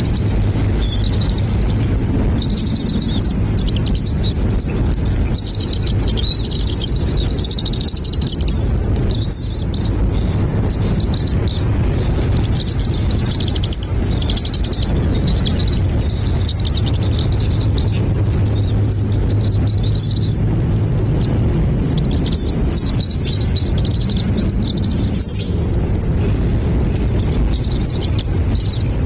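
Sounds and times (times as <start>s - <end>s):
nestling birds chirping: 0.0s - 29.0s
steady low rumble: 0.0s - 29.0s.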